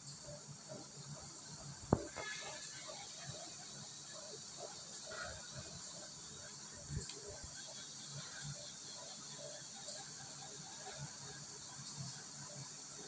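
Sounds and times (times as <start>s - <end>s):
printer high-pitched hiss and whine: 0.0s - 13.0s.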